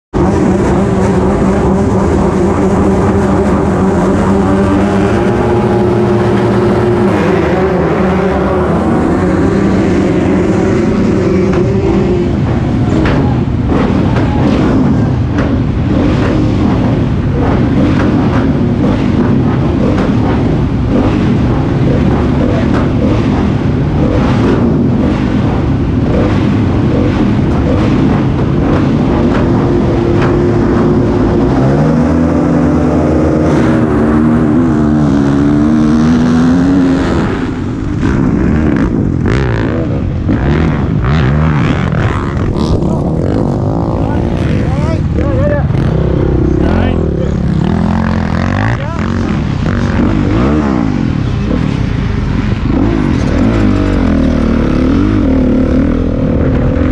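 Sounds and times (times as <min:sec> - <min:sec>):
dirt bike engines revving: 0:00.1 - 0:56.9.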